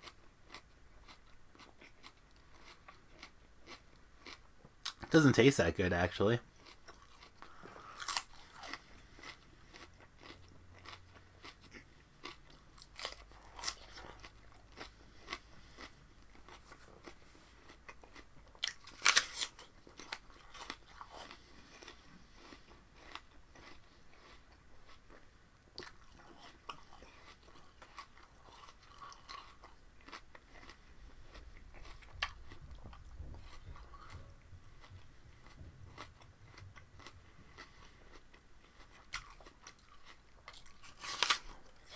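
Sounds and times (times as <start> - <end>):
person chewing raw spinach: 0.0 - 5.4, 6.1 - 41.9.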